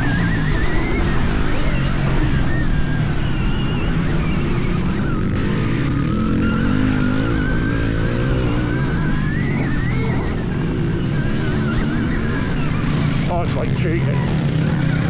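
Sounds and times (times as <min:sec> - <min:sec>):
electric motorbike motor whining: 0:00.0 - 0:15.0.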